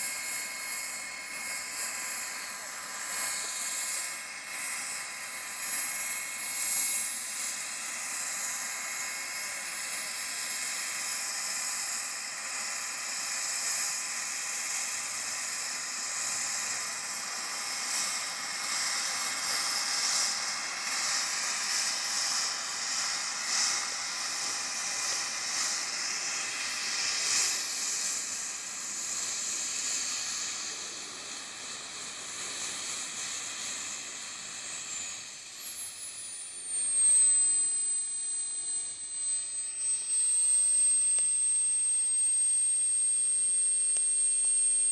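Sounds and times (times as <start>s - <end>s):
model helicopter turbine whine: 0.0s - 44.9s.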